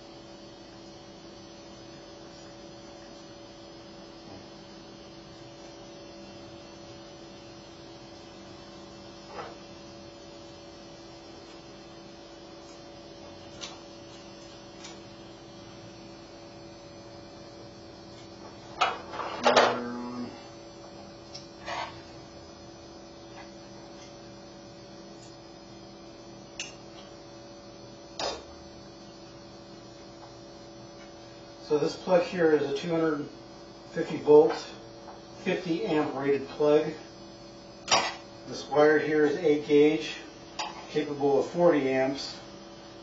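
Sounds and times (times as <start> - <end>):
steady electrical hum: 0.0 - 43.0.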